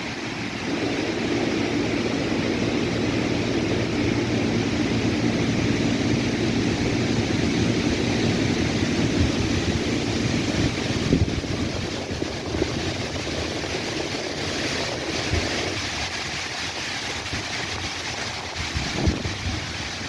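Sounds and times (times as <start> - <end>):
wind rumble on microphone: 0.0 - 20.0
wind through trees: 0.0 - 20.0.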